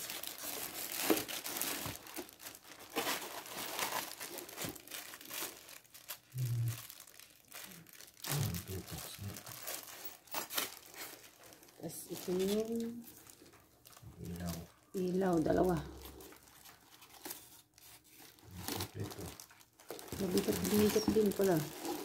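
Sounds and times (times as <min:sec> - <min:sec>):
plastic wrap crinkling: 0:00.0 - 0:22.0.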